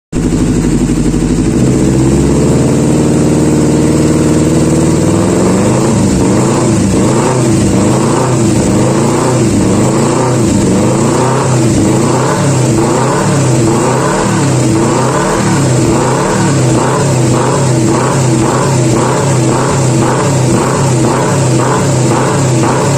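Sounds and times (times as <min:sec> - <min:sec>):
motorcycle engine revving: 0:00.1 - 0:22.9.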